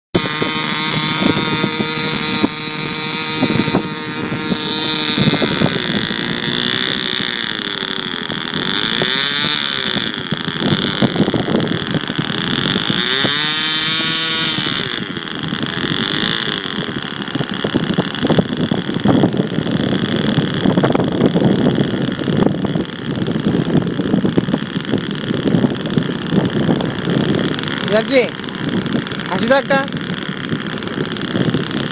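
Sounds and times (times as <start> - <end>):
model aeroplane engine buzzing: 0.2 - 31.9.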